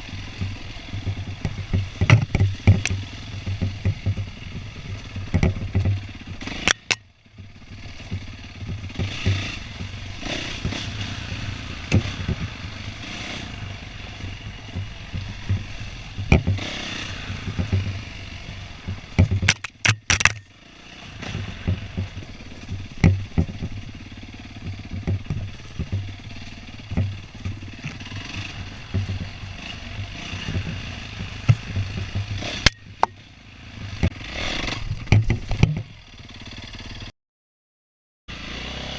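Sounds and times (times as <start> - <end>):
dirt bike engine running: 0.0 - 37.1, 38.3 - 38.9
knocks and rattles: 0.4 - 7.1, 8.0 - 12.8, 14.1 - 20.5, 21.2 - 33.2, 33.8 - 36.0.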